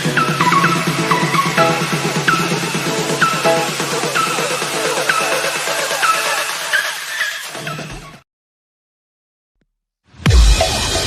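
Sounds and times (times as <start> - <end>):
electronic music: 0.0 - 8.2, 10.2 - 11.0.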